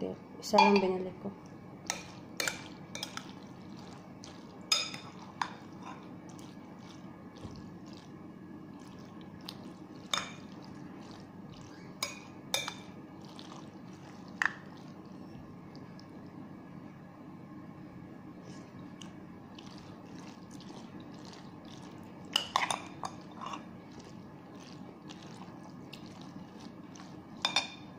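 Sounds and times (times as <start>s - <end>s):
wet squelching of salad: 1.4s - 16.1s, 18.4s - 27.8s.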